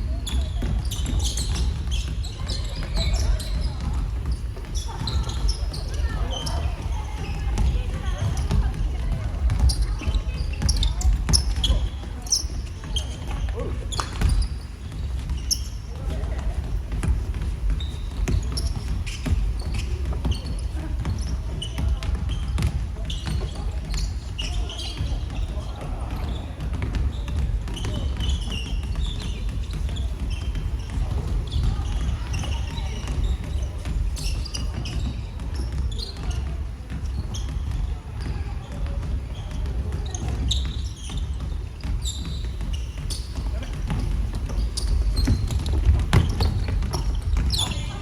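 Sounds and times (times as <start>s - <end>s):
basketball bouncing: 0.0s - 48.0s
sneakers squeaking on floor: 0.0s - 48.0s
voices echoing in a hall: 0.0s - 48.0s.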